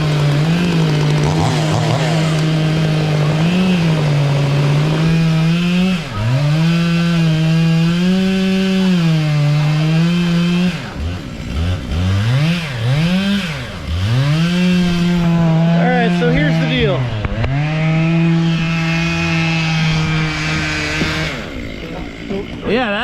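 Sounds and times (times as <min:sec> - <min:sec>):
chainsaw cutting through trunk: 0:00.0 - 0:23.0.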